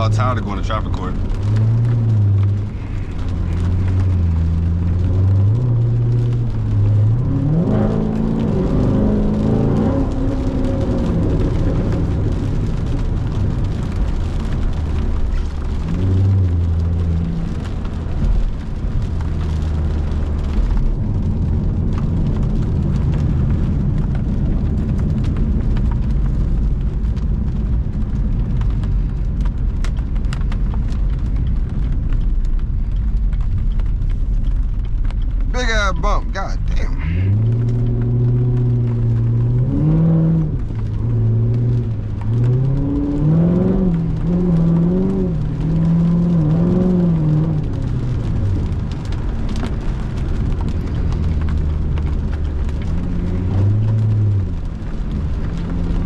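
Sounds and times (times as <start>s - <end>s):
car engine revving: 0.0s - 25.7s, 35.0s - 56.0s
tyre and road noise: 0.0s - 56.0s.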